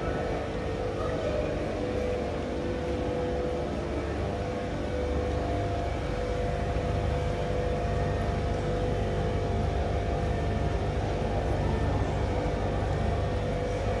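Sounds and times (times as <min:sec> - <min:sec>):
faint steady tone: 0:00.0 - 0:14.0
low rumble and hum: 0:00.0 - 0:14.0.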